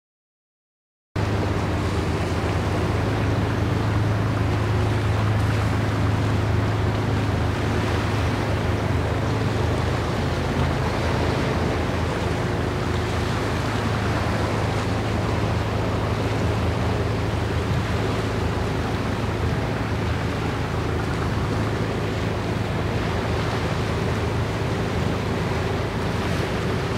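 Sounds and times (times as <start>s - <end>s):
ship engine drone: 1.2s - 26.9s
waves: 1.2s - 26.9s
wind: 1.2s - 26.9s.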